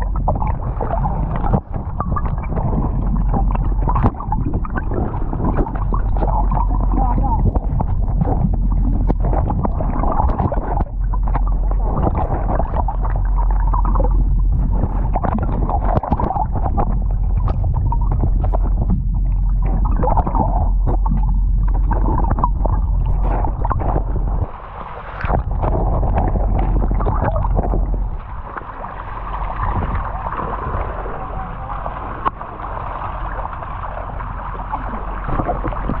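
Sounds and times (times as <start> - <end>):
muffled underwater rumble: 0.0 - 36.0
water sloshing and gurgling: 0.0 - 36.0.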